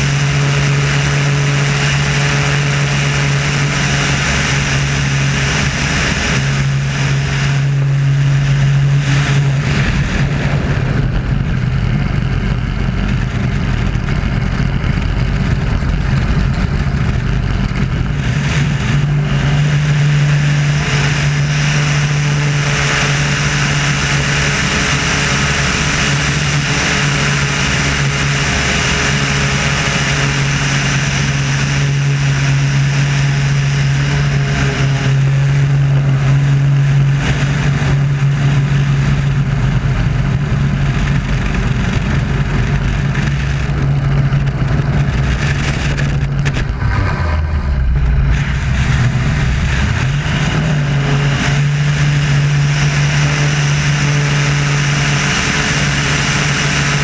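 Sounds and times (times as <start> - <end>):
biplane engine and propeller: 0.0 - 57.0
wind rushing over microphone: 0.0 - 57.0.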